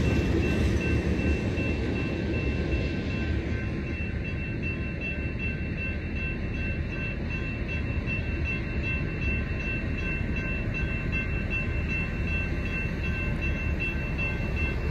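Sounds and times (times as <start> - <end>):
crossing warning bell ringing: 0.0 - 14.9.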